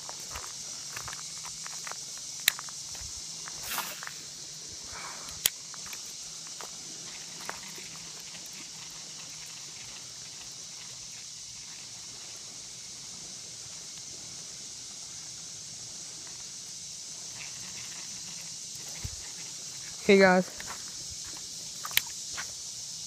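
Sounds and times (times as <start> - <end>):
high-pitched outdoor hiss: 0.0 - 23.0.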